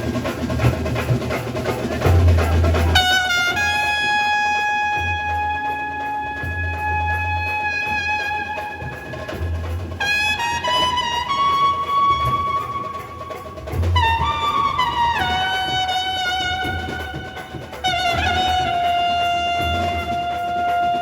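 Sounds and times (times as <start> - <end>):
low drum beats: 0.0 - 20.9
saxophones playing: 2.4 - 21.0.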